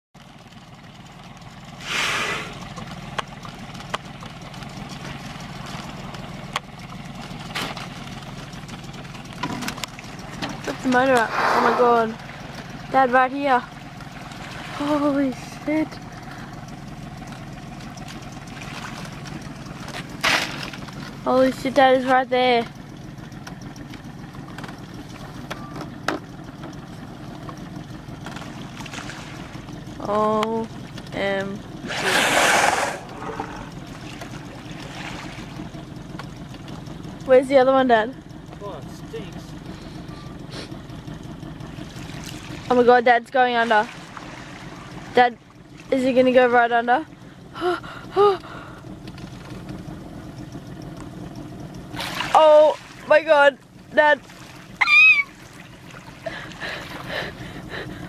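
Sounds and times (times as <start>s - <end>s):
boat motor idling: 0.2s - 58.0s.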